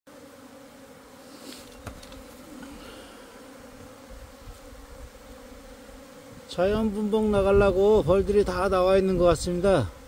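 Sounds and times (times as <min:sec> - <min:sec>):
bees buzzing: 0:00.1 - 0:10.0.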